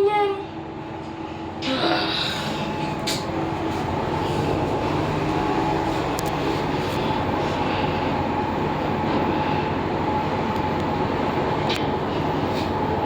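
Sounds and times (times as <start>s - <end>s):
lift running hum and whine: 0.0s - 13.0s.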